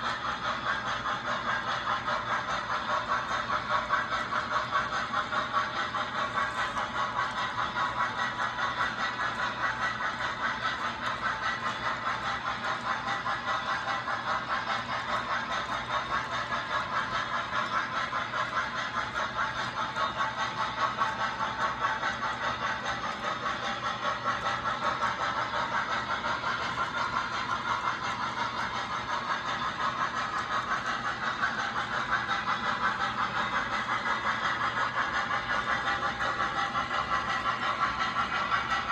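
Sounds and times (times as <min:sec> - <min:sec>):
train wheels clattering: 0:00.0 - 0:38.9.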